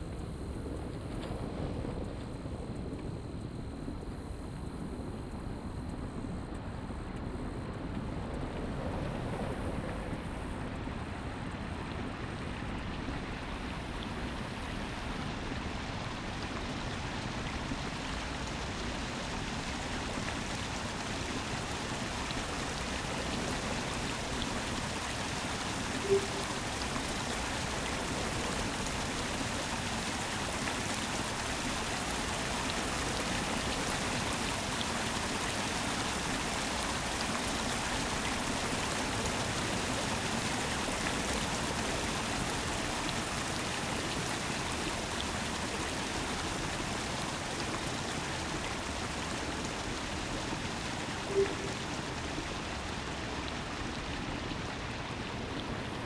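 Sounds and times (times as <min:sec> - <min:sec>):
bicycle tyre road noise: 0:00.0 - 0:56.0
wind buffeting microphone: 0:00.0 - 0:56.0.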